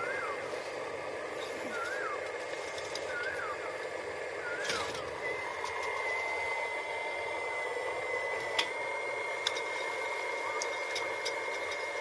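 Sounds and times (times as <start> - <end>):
high whine: 0.0 - 12.0
small electric motors whirring: 0.0 - 12.0.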